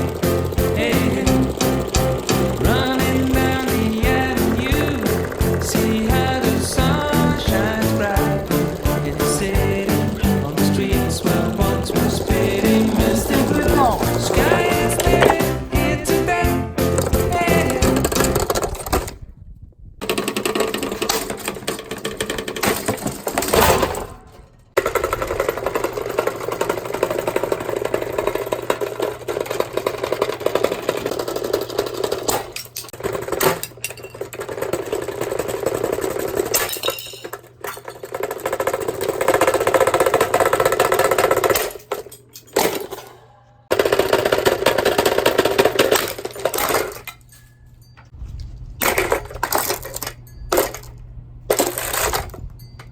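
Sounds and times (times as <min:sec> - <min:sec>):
metallic clattering and rattling fan: 0:00.0 - 0:19.3, 0:20.0 - 0:52.9.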